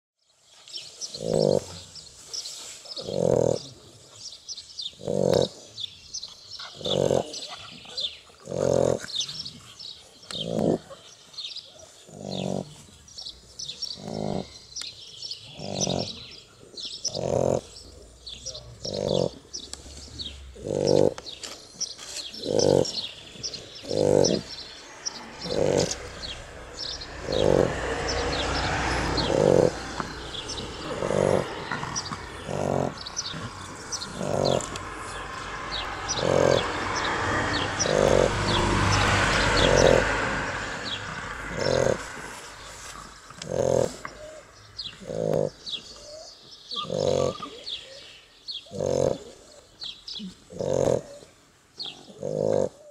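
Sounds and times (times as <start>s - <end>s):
puppies snoring: 1.0s - 2.1s, 4.8s - 11.5s, 12.1s - 47.8s, 48.6s - 52.9s.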